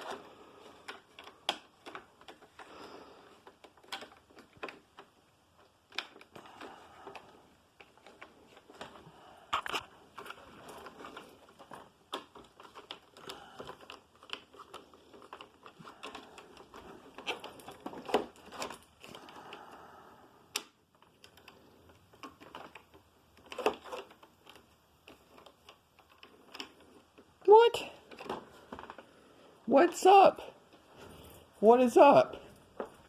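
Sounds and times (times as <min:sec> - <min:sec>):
plastic parts clicking and knocking: 0:00.0 - 0:19.8, 0:20.4 - 0:29.7.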